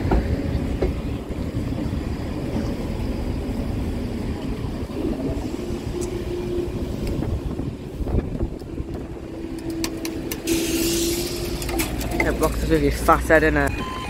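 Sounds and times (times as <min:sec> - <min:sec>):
wind noise on microphone: 0:00.0 - 0:12.2.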